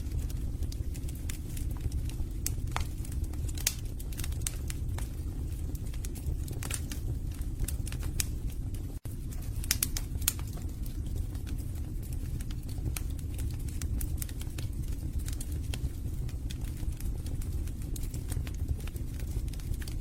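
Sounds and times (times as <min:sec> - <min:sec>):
logs crackling and popping: 0:00.0 - 0:20.0
low rumble of flames: 0:00.0 - 0:20.0.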